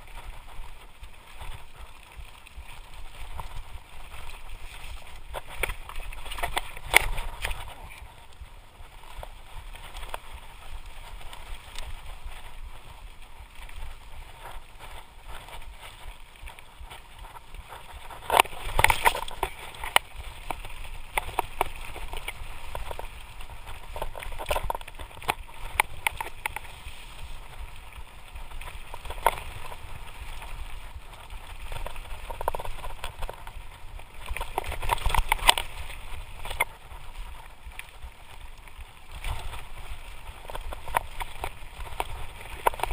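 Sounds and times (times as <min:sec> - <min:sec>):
bike clattering and rattling: 0:00.0 - 0:42.9
tyres rolling over dirt and stones: 0:00.0 - 0:42.9.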